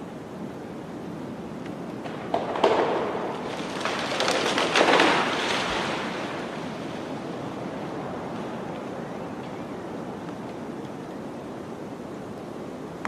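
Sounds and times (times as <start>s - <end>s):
blizzard wind gusting: 0.0s - 13.0s.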